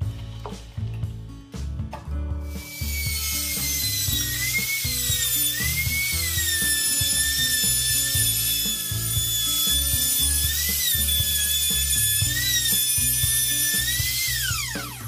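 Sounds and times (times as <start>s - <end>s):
background music with bass: 0.0s - 15.0s
router cutting plywood: 2.6s - 15.0s.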